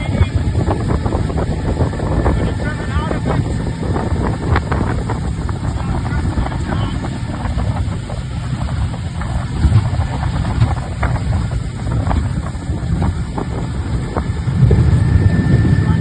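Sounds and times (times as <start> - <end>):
outboard motor running: 0.0 - 16.0
wind buffeting microphone: 0.0 - 16.0.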